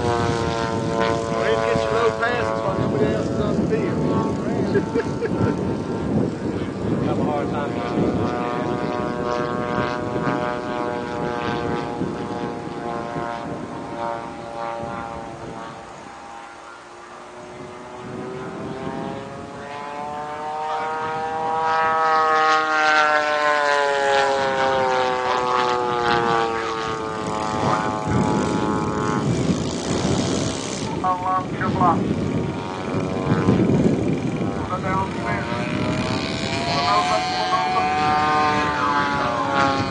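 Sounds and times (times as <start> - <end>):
model plane engine buzzing: 0.0 - 39.9.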